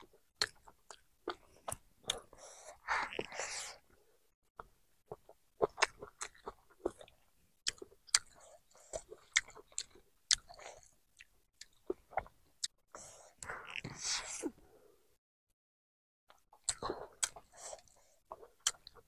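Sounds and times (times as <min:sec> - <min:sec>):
person chewing food: 0:00.0 - 0:14.0, 0:16.3 - 0:19.0.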